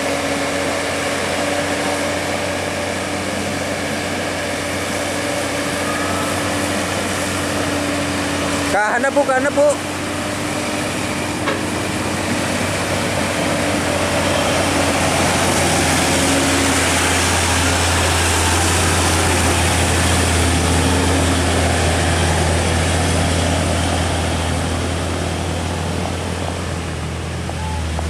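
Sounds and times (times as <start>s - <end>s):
diesel truck engine labouring: 0.0s - 28.0s.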